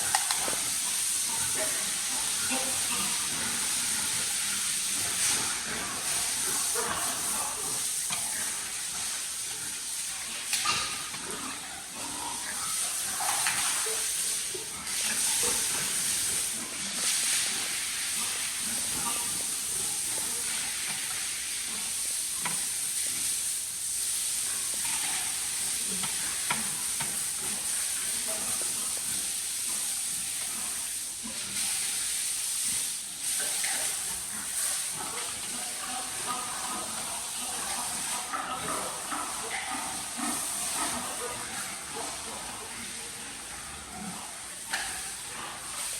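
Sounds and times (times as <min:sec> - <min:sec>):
water spray hissing: 0:00.0 - 0:43.5.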